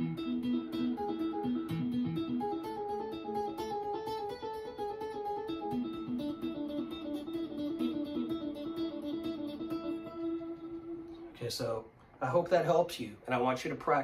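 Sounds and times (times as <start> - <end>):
electric guitar notes with echo: 0.0 - 11.4.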